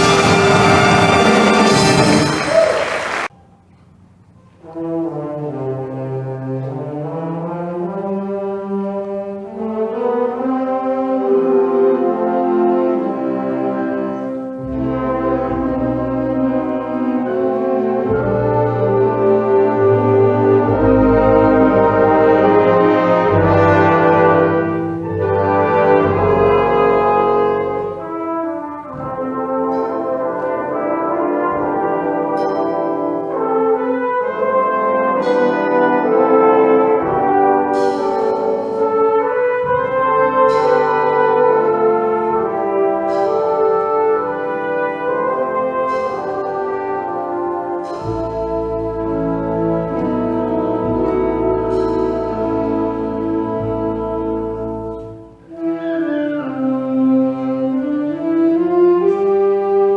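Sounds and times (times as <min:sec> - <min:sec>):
brass playing sustained chords: 0:00.0 - 0:03.3, 0:04.6 - 0:59.9.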